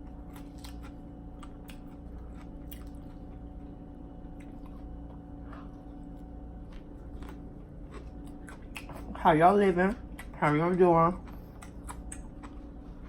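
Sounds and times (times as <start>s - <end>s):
chewing food: 0.0s - 9.2s, 9.9s - 13.0s
low hum: 0.0s - 13.0s.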